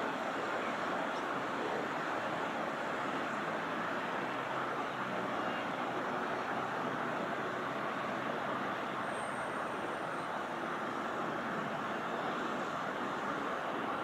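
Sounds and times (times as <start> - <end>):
jet engines passing overhead: 0.0 - 14.0.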